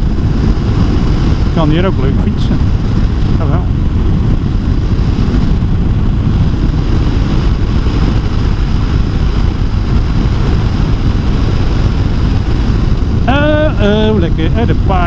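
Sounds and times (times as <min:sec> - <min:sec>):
motorcycle wind and riding noise: 0:00.0 - 0:15.0.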